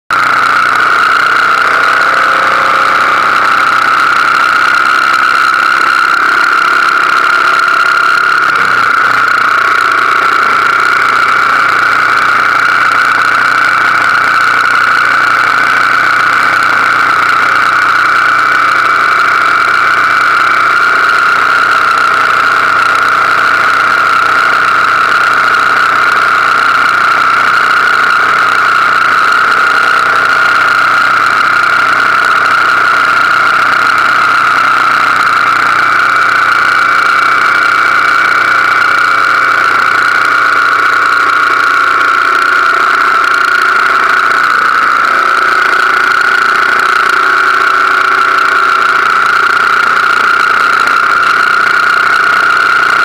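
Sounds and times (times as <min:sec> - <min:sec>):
motorcycle engine running: 0:00.1 - 0:53.0.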